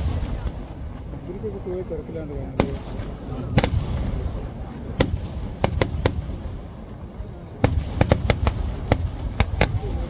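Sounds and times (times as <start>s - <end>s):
fireworks exploding: 0.0s - 1.4s, 2.5s - 10.0s.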